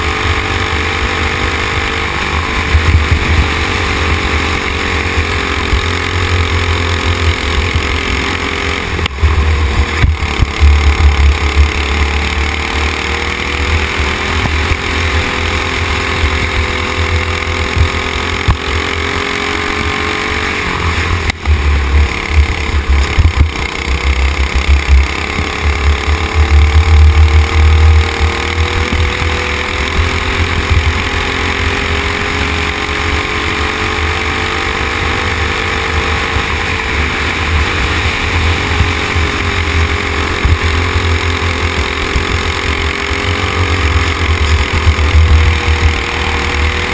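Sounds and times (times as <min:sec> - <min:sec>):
go-kart engine running hard: 0:00.0 - 0:46.9.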